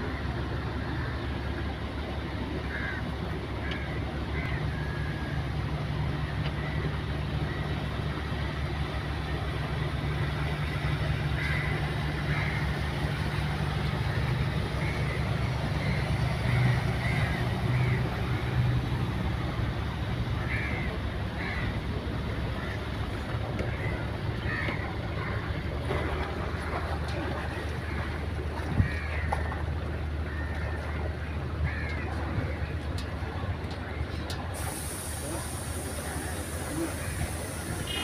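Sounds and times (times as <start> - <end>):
boat engine droning: 0.0 - 38.0
water rushing: 0.0 - 38.0
wind: 0.0 - 38.0.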